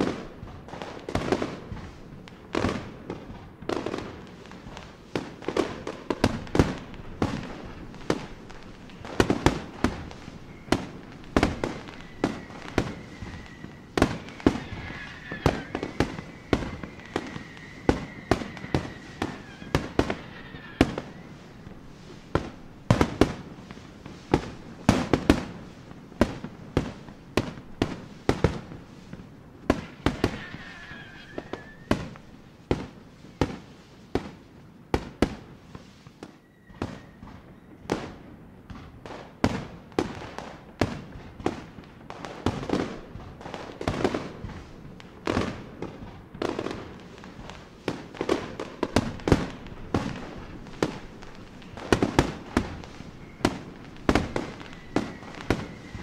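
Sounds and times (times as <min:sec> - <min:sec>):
fireworks bangs and crackles: 0:00.0 - 0:56.0
fireworks whistling: 0:00.0 - 0:56.0.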